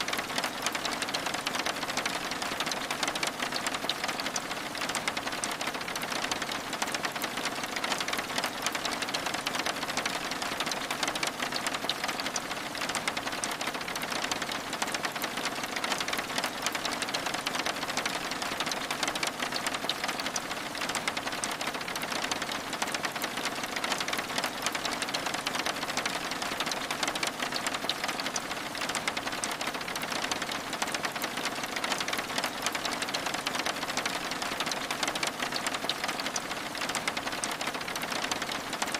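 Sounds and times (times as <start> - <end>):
rain on window glass: 0.0 - 38.9.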